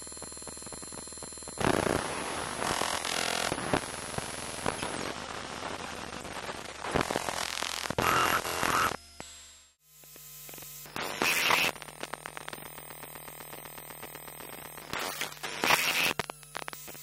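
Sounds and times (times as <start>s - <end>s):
electrical hum with buzzing ticks: 0.0s - 5.0s, 6.9s - 17.0s
crackling static bursts: 1.6s - 9.0s, 10.0s - 17.0s.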